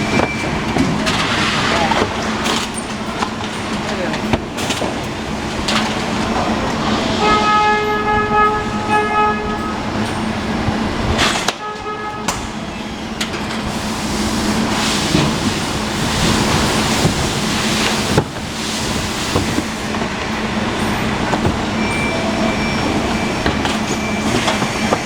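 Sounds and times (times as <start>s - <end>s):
packing machinery hum and clatter: 0.0s - 25.0s.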